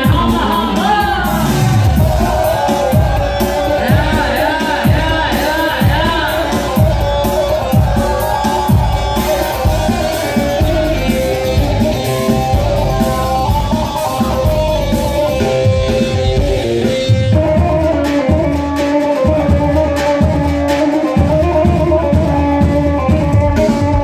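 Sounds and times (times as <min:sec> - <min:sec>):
steady drum beat: 0:00.0 - 0:24.0.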